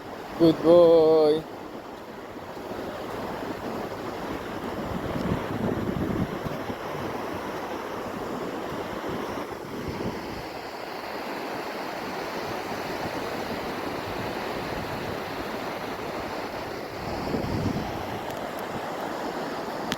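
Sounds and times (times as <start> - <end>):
ocean surf on beach: 0.0 - 19.9.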